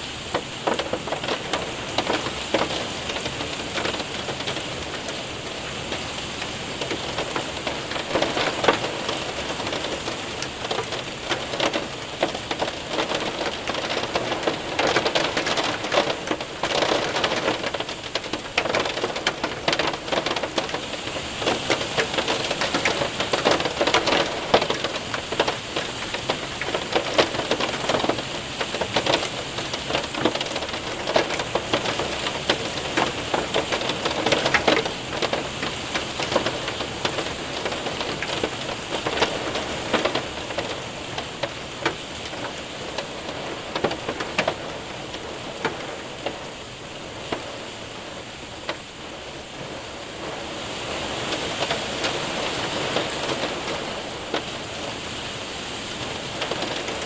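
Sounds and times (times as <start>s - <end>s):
hail and rain on window and roof: 0.0s - 57.0s.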